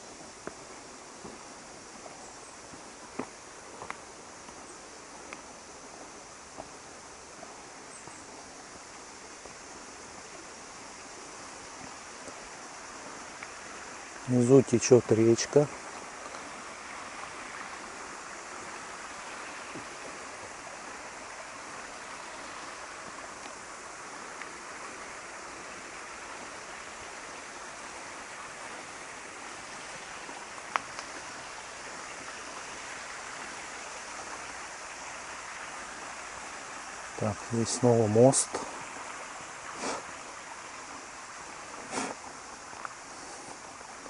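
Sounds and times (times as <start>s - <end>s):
river water rushing: 0.0s - 44.0s.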